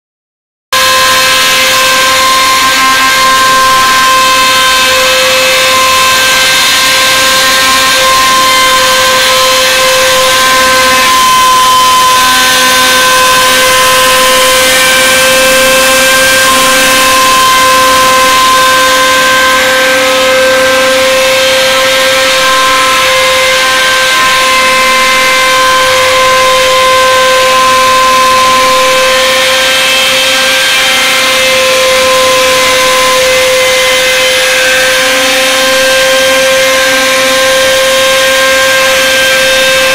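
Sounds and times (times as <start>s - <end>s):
router spindle whining: 0.7s - 39.9s.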